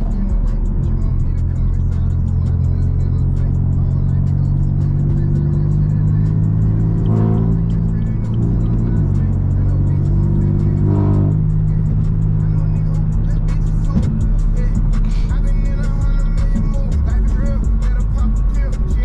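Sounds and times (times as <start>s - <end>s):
car engine drone in cabin: 0.0s - 19.0s
music playing: 0.0s - 19.0s.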